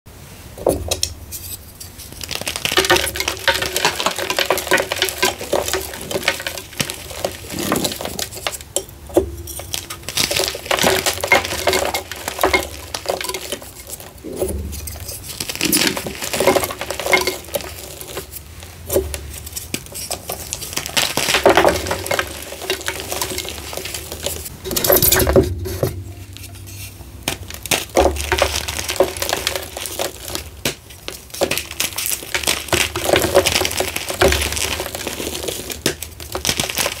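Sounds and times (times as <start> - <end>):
chalk crunching and crumbling: 0.7 - 37.0.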